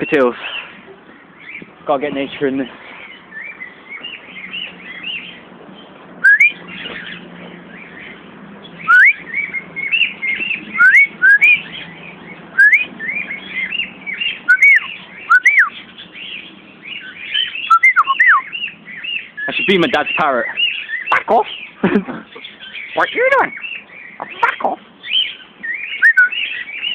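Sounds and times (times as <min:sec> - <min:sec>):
birds whistling: 0:00.0 - 0:26.9.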